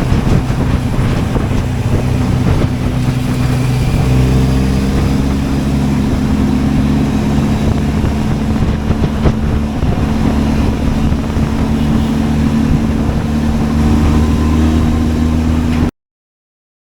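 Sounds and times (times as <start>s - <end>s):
motorcycle engine running: 0.0s - 15.9s
wind noise on microphone: 0.0s - 15.9s.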